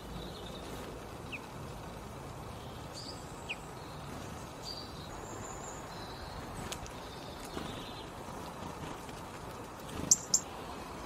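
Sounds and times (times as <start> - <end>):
songbirds chirping: 0.0 - 11.0
steady low background noise: 0.0 - 11.0.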